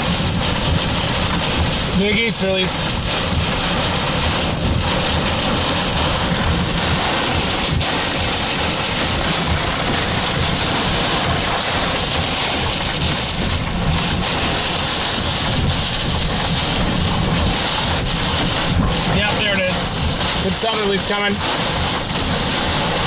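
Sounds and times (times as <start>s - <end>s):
heavy rain beating on vehicle: 0.0s - 23.0s
strong wind on vehicle: 0.0s - 23.0s.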